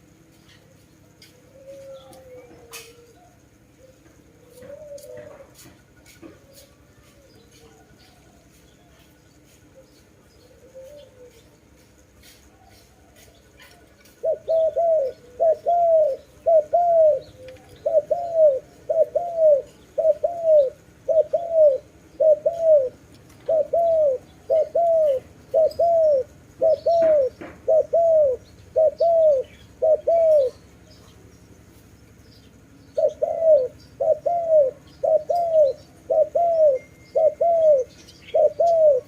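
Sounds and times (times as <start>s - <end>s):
dove cooing: 0.0s - 8.6s, 9.5s - 31.2s, 32.6s - 39.0s.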